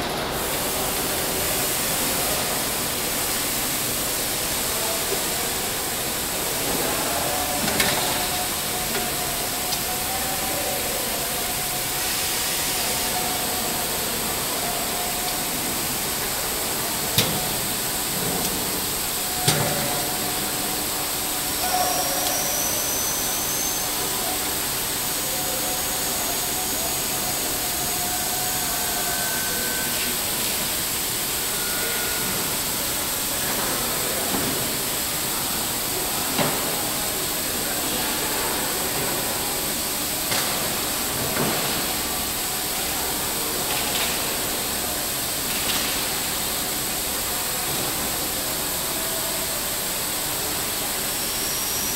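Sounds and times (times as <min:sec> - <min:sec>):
loud factory hiss: 0:00.0 - 0:51.9.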